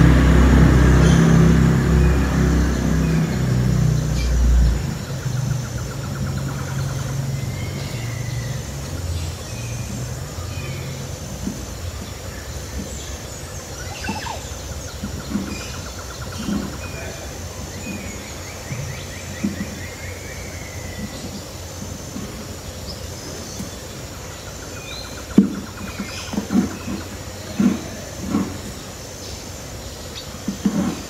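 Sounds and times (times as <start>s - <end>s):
low background rumble: 0.0s - 30.4s
birds chirping and trilling: 0.0s - 31.0s.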